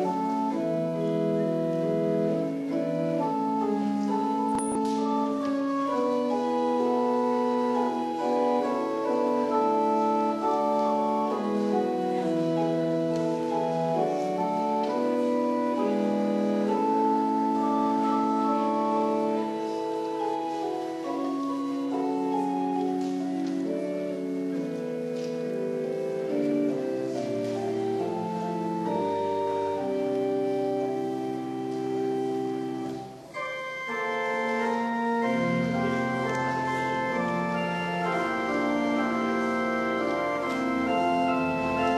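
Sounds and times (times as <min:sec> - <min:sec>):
church organ playing chords: 0:00.0 - 0:41.9.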